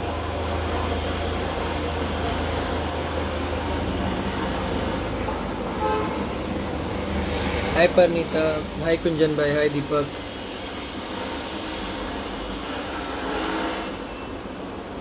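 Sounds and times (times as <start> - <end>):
steady hum and hiss: 0.0 - 15.0.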